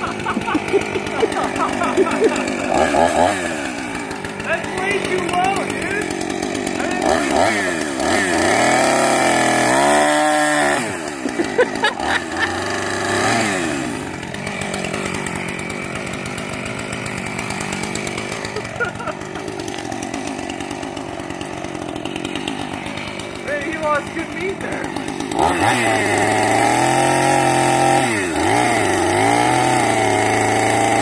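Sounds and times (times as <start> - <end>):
chainsaw engine revving: 0.0 - 31.0.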